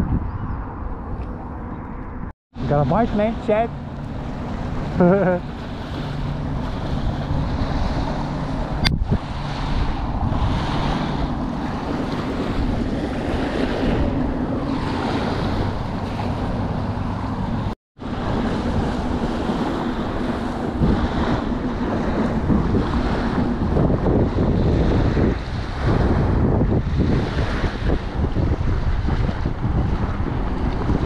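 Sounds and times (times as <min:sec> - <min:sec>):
wind buffeting microphone: 0:00.0 - 0:31.0
small waves washing onto beach: 0:02.6 - 0:31.0.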